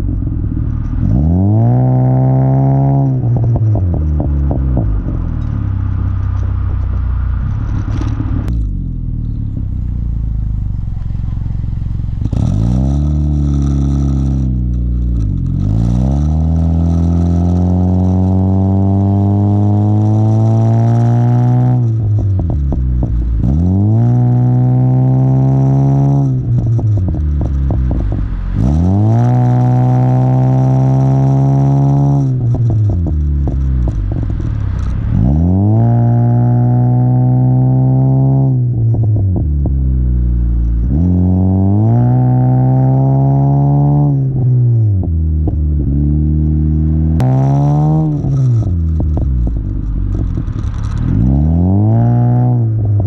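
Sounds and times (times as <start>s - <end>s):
car engine accelerating hard: 0.0s - 53.0s
exhaust crackling pops: 0.0s - 53.0s.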